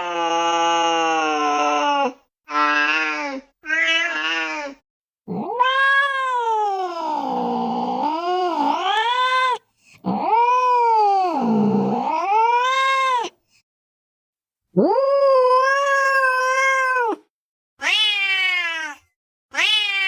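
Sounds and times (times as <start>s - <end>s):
cat yowling: 0.0s - 13.3s, 14.8s - 20.0s.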